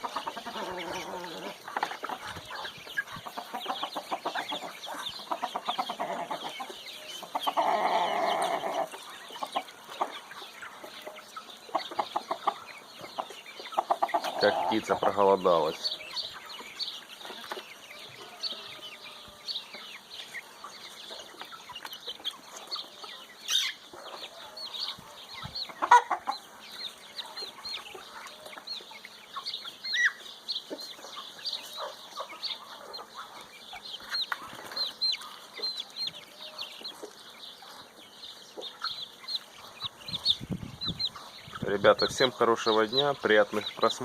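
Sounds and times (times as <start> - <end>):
chickens clucking and peeping: 0.0 - 44.0.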